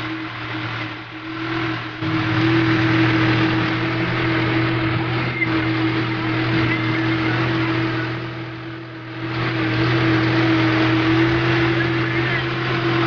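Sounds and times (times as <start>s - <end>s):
steady rush of noise: 0.0s - 13.0s
tractor diesel engine running: 0.0s - 13.0s.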